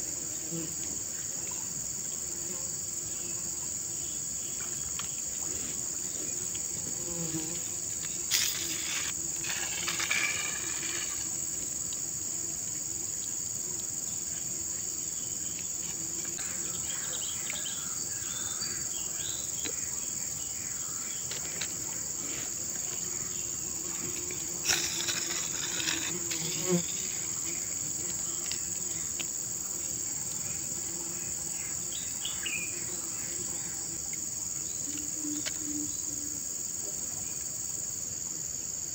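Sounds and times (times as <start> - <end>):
insects chirping chorus: 0.0 - 38.9.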